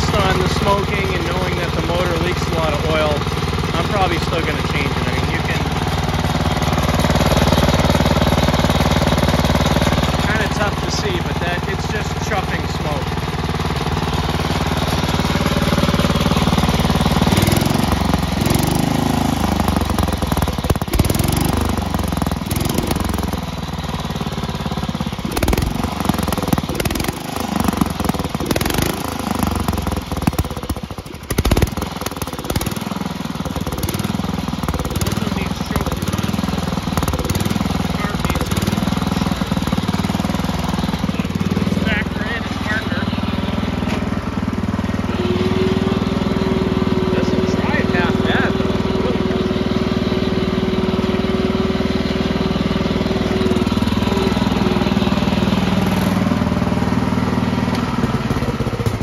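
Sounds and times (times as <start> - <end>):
garden tractor engine chuffing: 0.0 - 59.0.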